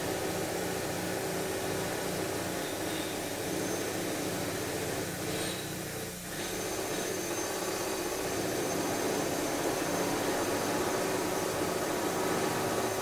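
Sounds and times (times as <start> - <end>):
construction machinery drone: 0.0 - 13.0.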